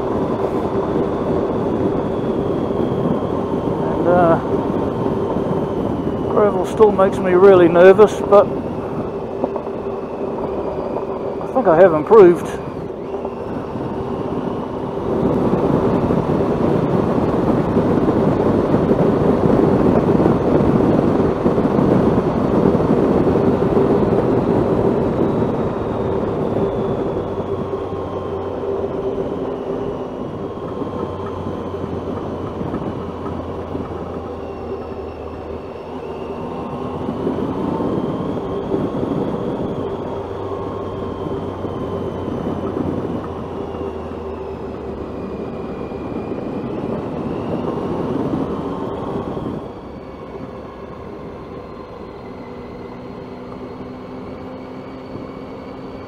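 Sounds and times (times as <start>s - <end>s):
motorcycle engine humming: 0.0s - 56.0s
wind and road noise: 0.0s - 56.0s.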